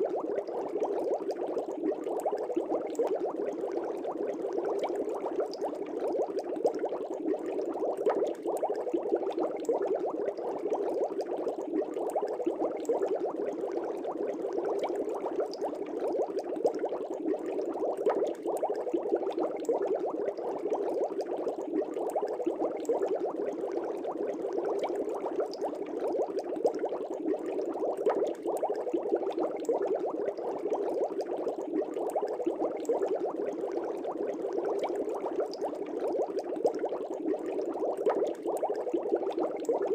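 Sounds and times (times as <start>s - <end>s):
aquarium air bubbles bubbling: 0.0s - 39.9s.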